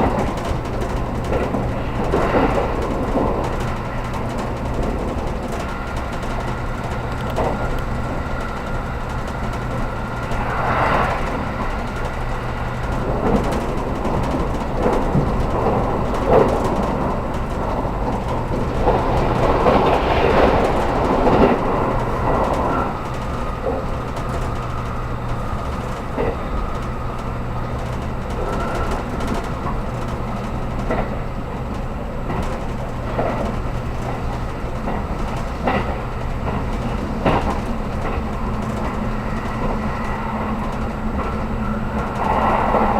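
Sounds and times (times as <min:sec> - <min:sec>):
track knocks: 0:00.0 - 0:42.9
train wheels humming on rail: 0:00.0 - 0:42.9.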